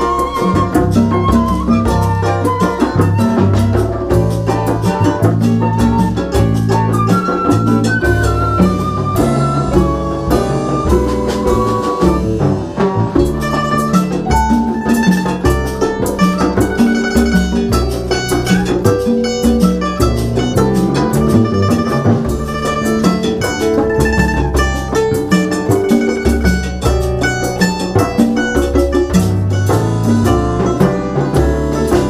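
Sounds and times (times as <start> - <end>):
latin band playing: 0.0 - 32.0
low bass notes: 0.0 - 32.0
plucked lute melody: 0.0 - 32.0.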